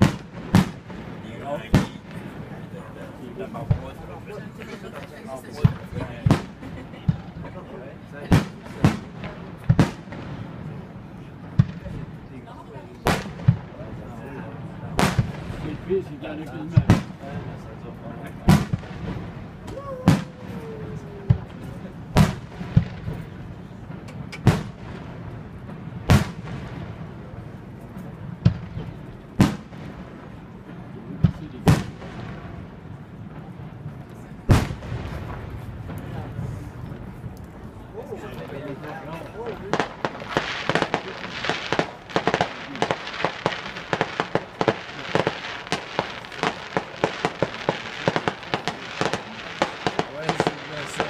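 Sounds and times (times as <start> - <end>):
fireworks bursting bangs: 0.0 - 51.0.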